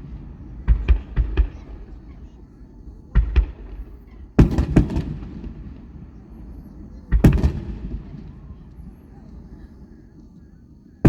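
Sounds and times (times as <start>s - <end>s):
firework booms: 0.0s - 11.0s
firework crackling: 0.0s - 11.0s.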